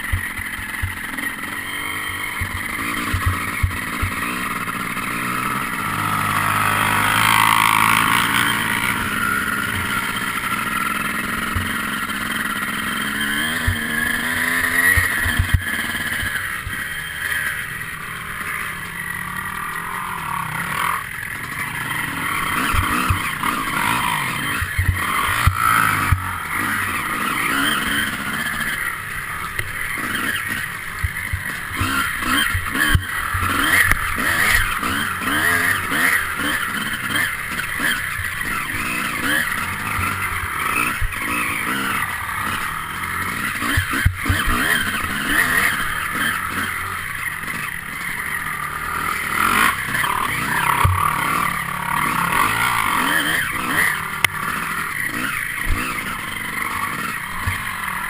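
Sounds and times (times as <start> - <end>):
motorcycle engine revving: 0.0 - 58.0
riding over rough ground: 0.0 - 58.0.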